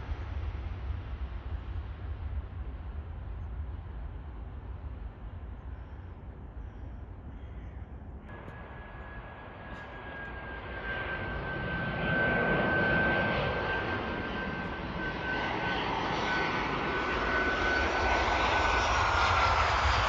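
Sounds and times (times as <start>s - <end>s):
jet engine whine and rush: 0.0s - 5.8s, 8.3s - 20.0s.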